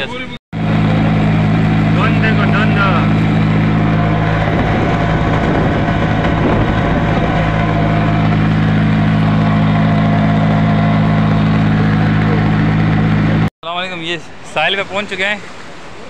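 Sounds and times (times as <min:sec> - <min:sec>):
road and wind noise: 0:00.0 - 0:13.5
vehicle engine humming: 0:00.2 - 0:13.5
rushing noise: 0:00.6 - 0:13.5.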